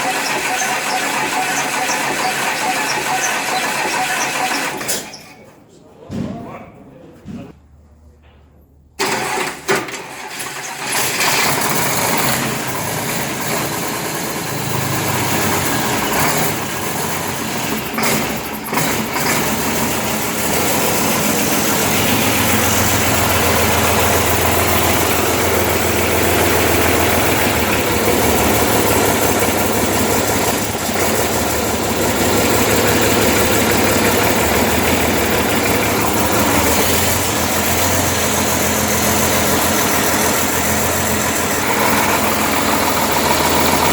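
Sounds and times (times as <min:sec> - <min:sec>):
engine running unevenly then idling: 0:00.0 - 0:04.8, 0:10.8 - 0:43.9.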